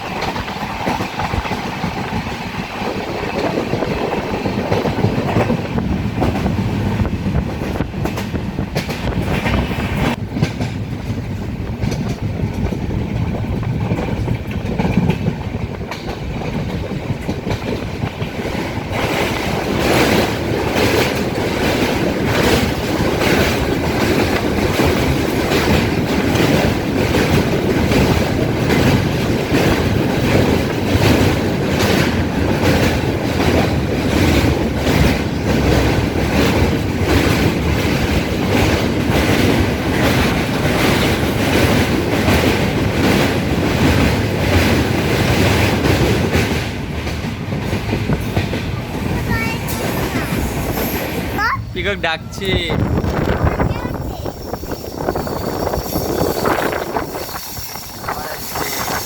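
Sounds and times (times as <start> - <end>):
train rumble: 0.0 - 59.0
train wheels clacking: 0.0 - 59.0.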